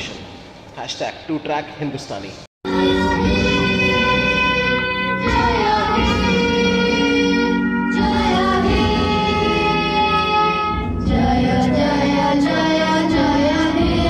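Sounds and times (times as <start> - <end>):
children's choir singing with music: 2.7 - 14.0.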